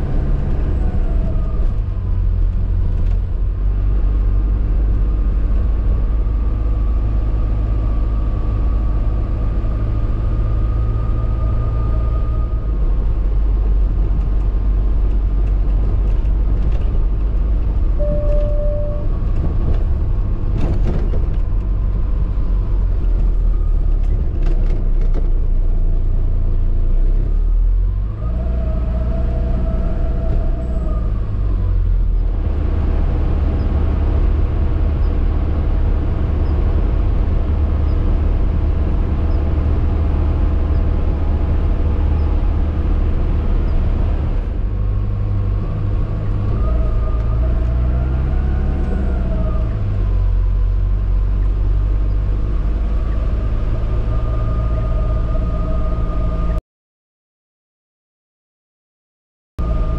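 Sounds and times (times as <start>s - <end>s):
motorhome engine running: 0.0s - 56.6s
tyre and road rumble: 0.0s - 56.6s.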